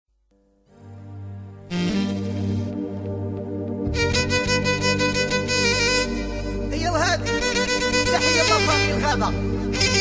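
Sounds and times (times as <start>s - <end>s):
sustained electronic keyboard chords: 0.3s - 10.0s.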